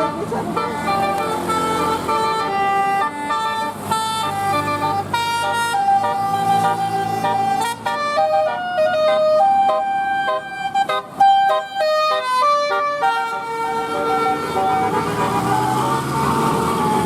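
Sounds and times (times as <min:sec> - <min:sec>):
bus engine noise: 0:00.0 - 0:17.0
musical air horn playing tune: 0:00.0 - 0:17.0.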